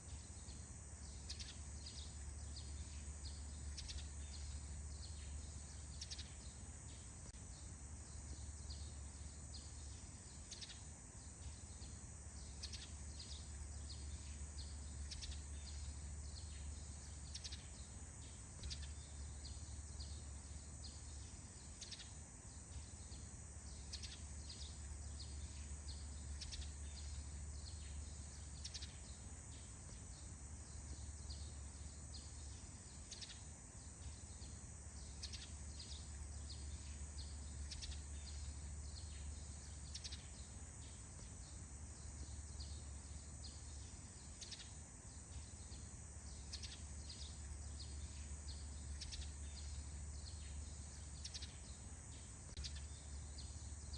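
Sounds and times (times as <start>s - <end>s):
bird chirps: 0.0s - 53.9s
low steady hum: 0.0s - 53.9s.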